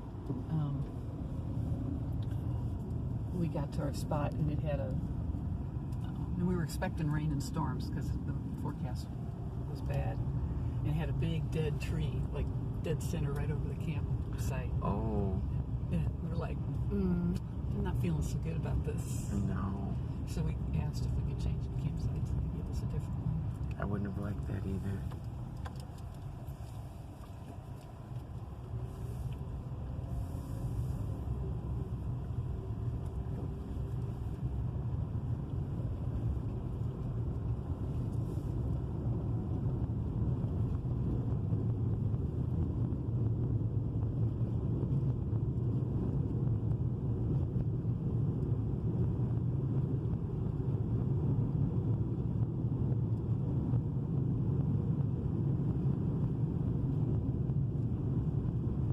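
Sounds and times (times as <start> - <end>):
vehicle road and engine rumble: 0.0 - 58.9.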